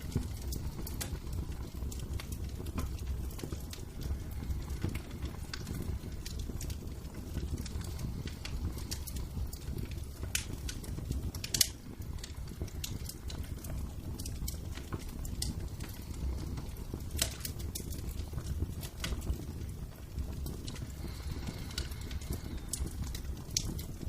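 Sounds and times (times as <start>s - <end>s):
low fire rumble: 0.0s - 24.0s
wood fire crackling and popping: 0.0s - 24.0s.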